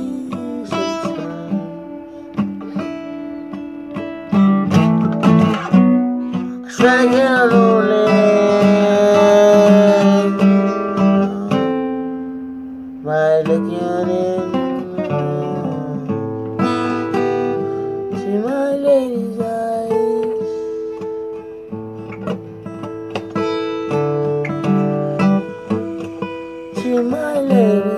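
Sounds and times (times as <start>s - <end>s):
acoustic guitar playing: 0.0s - 27.9s.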